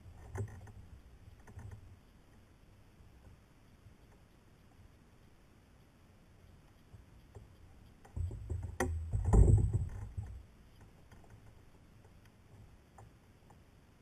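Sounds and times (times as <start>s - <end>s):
faint small ticks: 0.0s - 14.0s.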